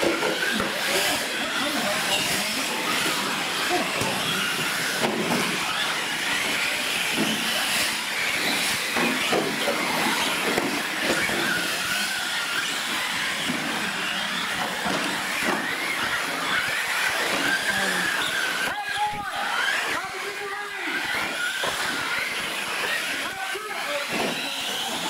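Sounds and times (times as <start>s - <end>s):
rc truck motor whine: 0.0s - 25.0s.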